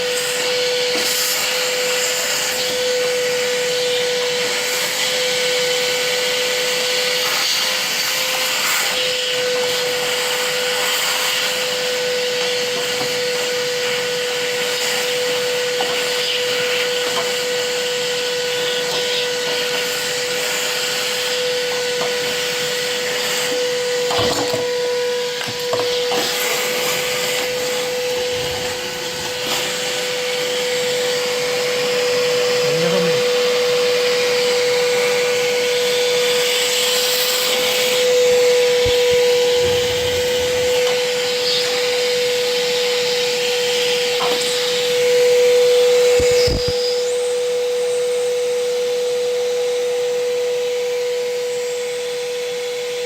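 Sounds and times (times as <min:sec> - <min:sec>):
vacuum whining: 0:00.0 - 0:53.0.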